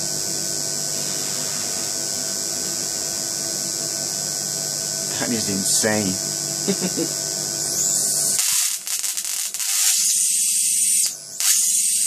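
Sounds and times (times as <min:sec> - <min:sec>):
electrical hum: 0:00.0 - 0:12.0
high-voltage arc hissing and crackling: 0:00.0 - 0:12.0
low buzz: 0:00.0 - 0:12.0.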